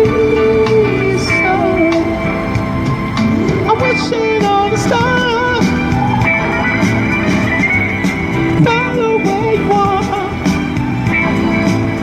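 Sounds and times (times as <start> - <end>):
guitar-led band song: 0.0 - 12.0.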